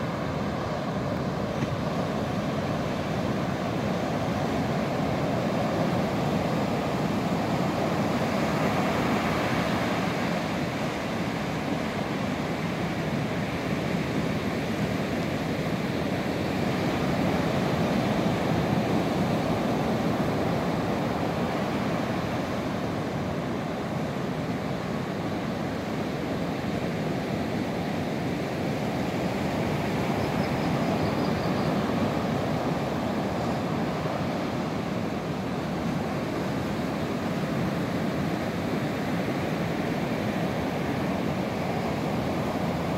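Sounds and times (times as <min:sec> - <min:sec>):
ocean surf breaking on beach: 0:00.0 - 0:42.9.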